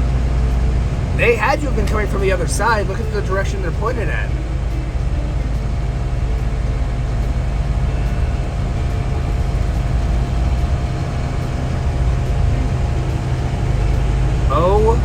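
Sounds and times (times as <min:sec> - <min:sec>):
engine and road noise drone: 0:00.0 - 0:15.0
faint steady whine: 0:00.0 - 0:15.0.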